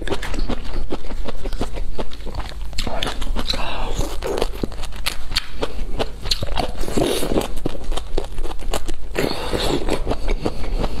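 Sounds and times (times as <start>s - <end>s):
crunching of crisp food: 0.0s - 11.0s
wet chewing: 0.0s - 11.0s.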